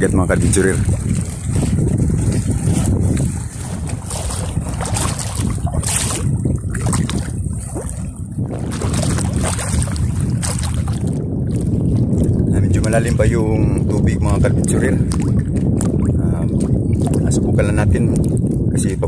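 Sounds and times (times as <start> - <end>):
water sloshing and splashing: 0.0 - 19.0
wind buffeting microphone: 0.0 - 19.0.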